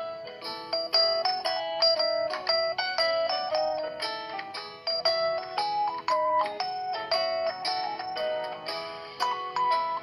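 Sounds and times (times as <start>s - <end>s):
smartphone ringtone melody: 0.0s - 10.0s.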